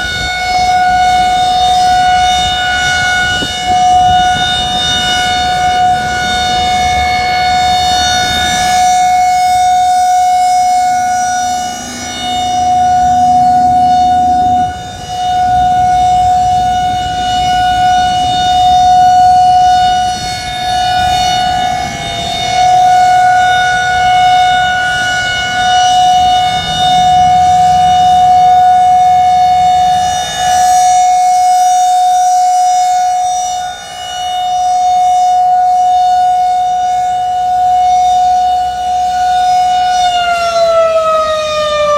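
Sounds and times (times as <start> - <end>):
rotating warning siren steady tone: 0.0 - 41.9.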